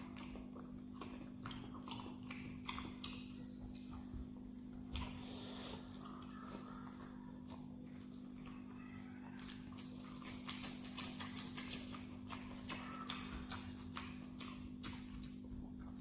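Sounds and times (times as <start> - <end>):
close chewing and lip-smacking: 0.0 - 16.0
steady low hum: 0.0 - 16.0.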